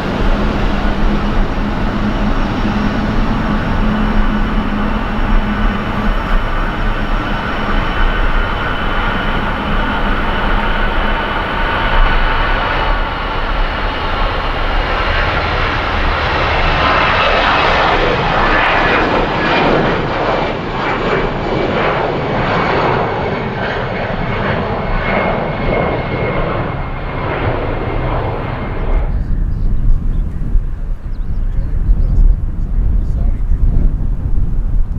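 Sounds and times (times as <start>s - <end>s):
jet airliner engines: 0.0s - 34.9s.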